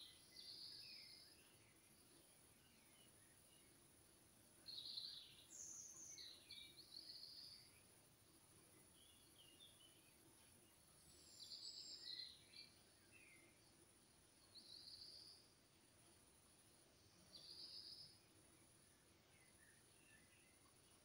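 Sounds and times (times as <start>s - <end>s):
faint high hiss: 0.0s - 21.0s
songbird chirps: 0.0s - 21.0s.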